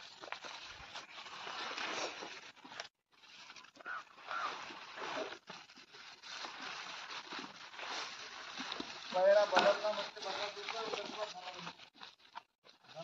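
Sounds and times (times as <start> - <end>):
bullock chewing fodder: 0.0 - 13.0.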